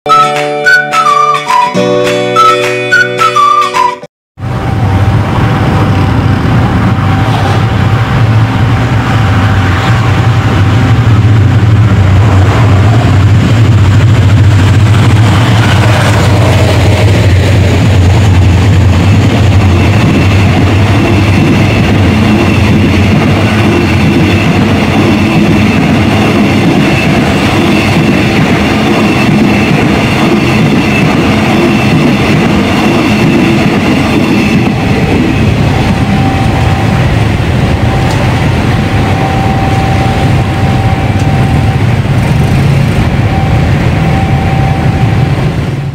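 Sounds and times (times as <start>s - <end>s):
train coaches rumbling past: 0.1s - 45.9s
diesel engine drone: 4.4s - 45.9s
high whine from wheels: 4.4s - 45.9s.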